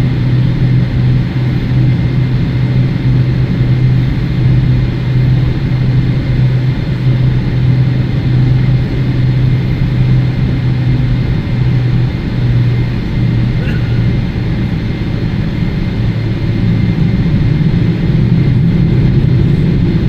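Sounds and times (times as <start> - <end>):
jet engines droning in cabin: 0.0 - 20.0.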